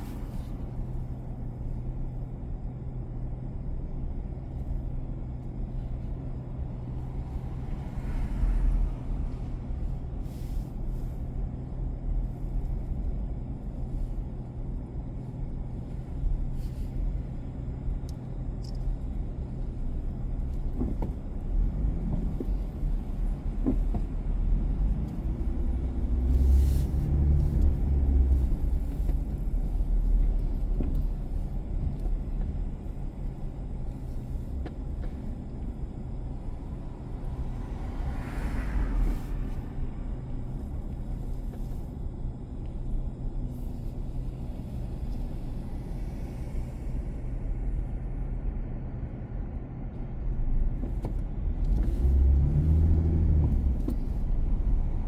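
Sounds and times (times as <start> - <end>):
car engine and tyre rumble: 0.0 - 55.0
constant low hum: 0.0 - 55.0.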